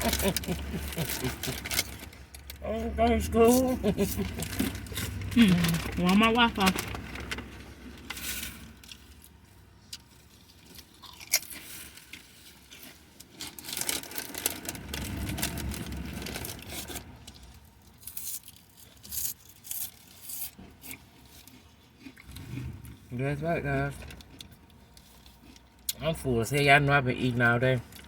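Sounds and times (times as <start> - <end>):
chewing and crunching food: 0.0 - 2.6, 3.2 - 28.0.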